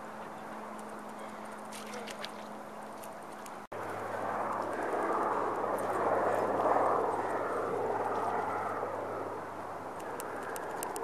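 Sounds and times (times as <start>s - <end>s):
distant engine noise: 0.0s - 11.0s
steady low hum: 0.0s - 11.0s.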